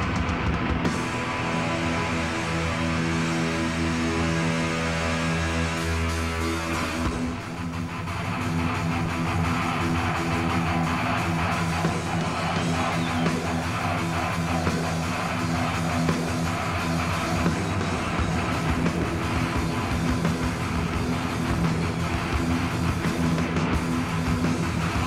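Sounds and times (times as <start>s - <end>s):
bass and drums: 0.0s - 25.0s
distorted electric guitars riffing: 0.0s - 25.0s.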